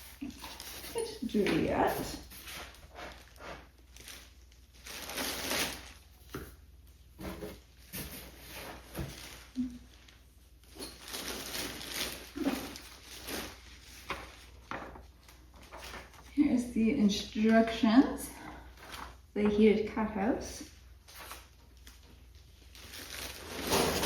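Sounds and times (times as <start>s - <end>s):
packaging rustling and crinkling: 0.0s - 16.4s, 21.0s - 24.0s.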